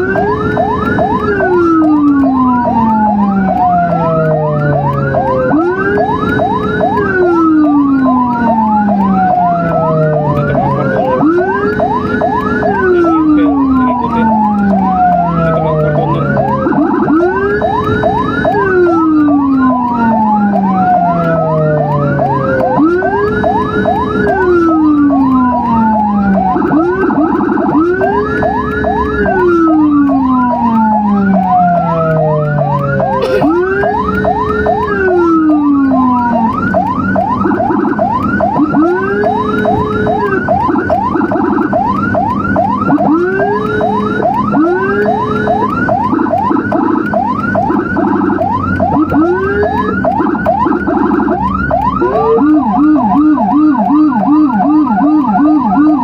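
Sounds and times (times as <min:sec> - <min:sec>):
siren wail: 0:00.0 - 0:56.0
siren yelp: 0:00.0 - 0:56.0.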